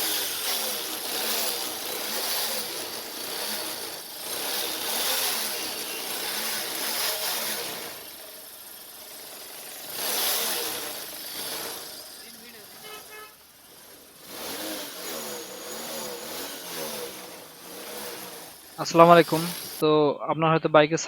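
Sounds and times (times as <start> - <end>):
motorcycle engine revving: 0.0 - 19.8
rattling chain cover: 0.0 - 19.8.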